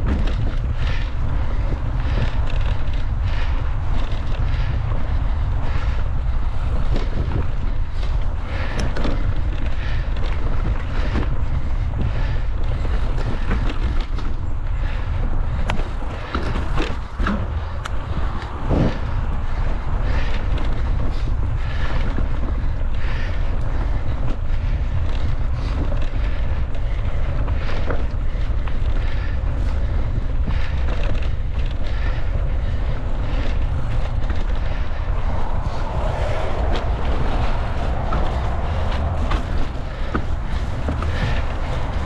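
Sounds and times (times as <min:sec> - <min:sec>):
bike knocks and rattles: 0:00.0 - 0:42.0
wind buffeting microphone: 0:00.0 - 0:42.0.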